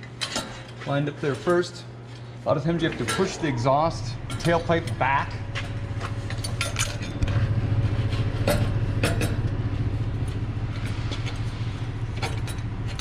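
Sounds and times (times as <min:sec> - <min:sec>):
machine low hum: 0:00.0 - 0:13.0.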